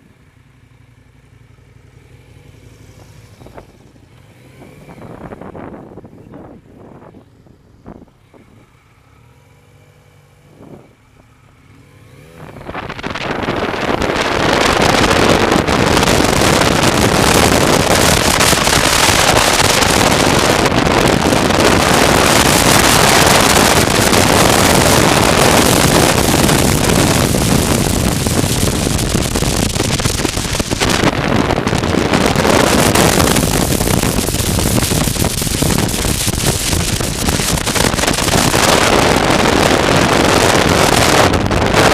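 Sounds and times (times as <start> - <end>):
motorcycle engine running: 0.0 - 41.9
wind noise on microphone: 3.3 - 8.7, 12.2 - 41.9.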